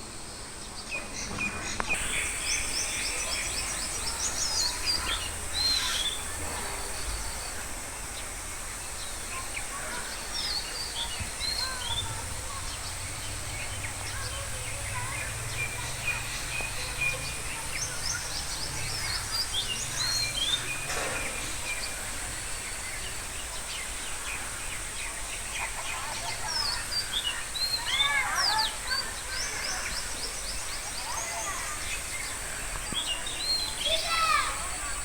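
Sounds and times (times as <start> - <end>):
birds chirping: 0.0 - 35.0
steady high-pitched hiss: 0.0 - 35.0.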